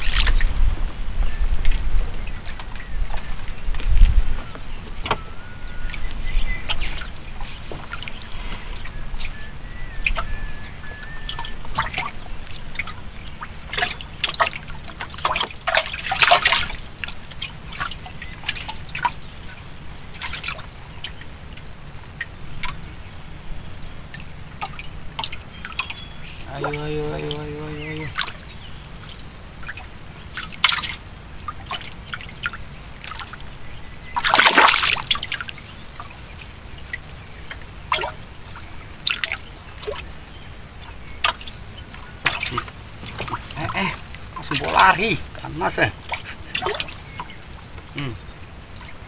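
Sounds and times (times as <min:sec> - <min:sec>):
water trickling and dripping: 0:00.0 - 0:49.0
light clicks and splashes: 0:01.6 - 0:22.9, 0:24.0 - 0:49.0.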